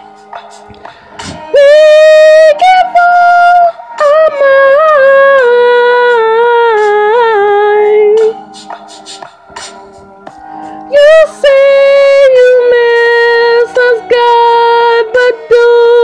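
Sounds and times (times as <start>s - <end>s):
person singing high held notes: 0.8s - 16.0s.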